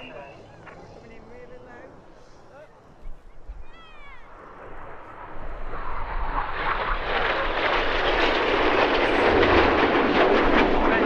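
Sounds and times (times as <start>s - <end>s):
jets passing low: 0.0s - 11.0s.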